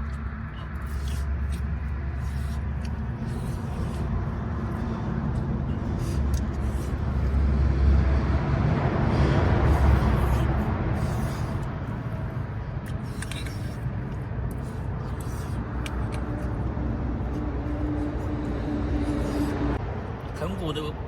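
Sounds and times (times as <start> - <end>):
traffic rumble on bridge: 0.0 - 21.0.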